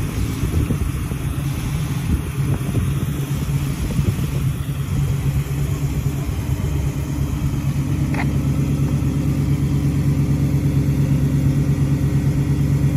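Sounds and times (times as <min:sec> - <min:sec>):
vee eight engine idling: 0:00.0 - 0:12.9.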